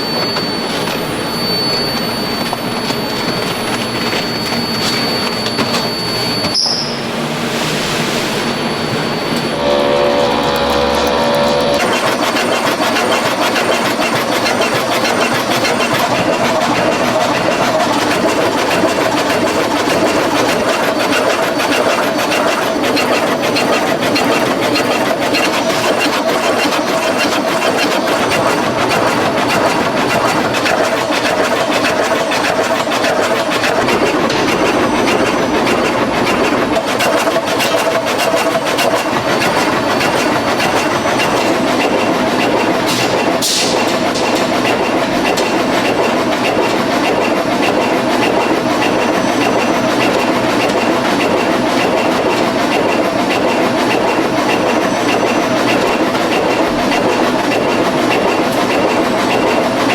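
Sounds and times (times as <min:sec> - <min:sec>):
machinery clattering: 0:08.5 - 0:59.9.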